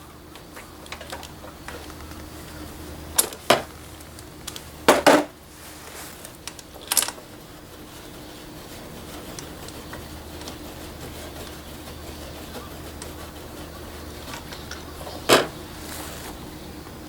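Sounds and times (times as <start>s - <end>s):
steady faint hum: 0.0s - 17.0s.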